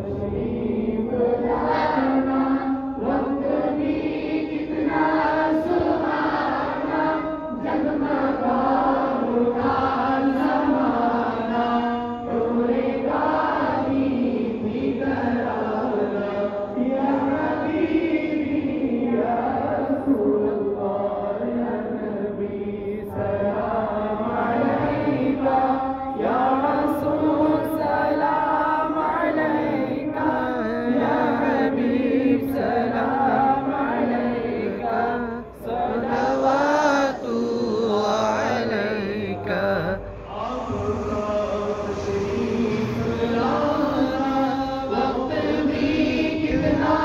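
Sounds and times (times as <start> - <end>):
group chanting in unison: 0.0 - 47.0.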